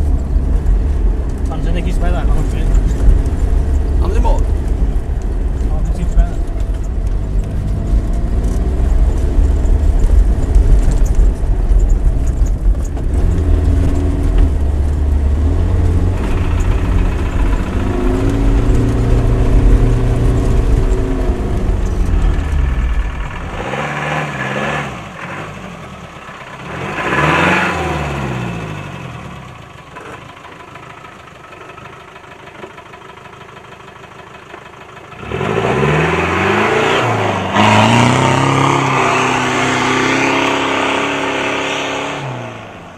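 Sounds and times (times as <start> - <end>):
diesel engine revving: 0.0 - 31.0, 35.0 - 42.9.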